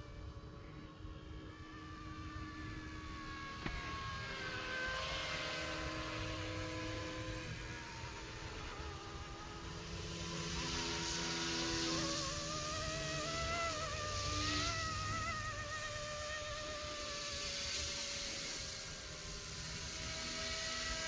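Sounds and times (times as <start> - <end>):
rc helicopter motor and rotors whine: 0.0 - 21.0.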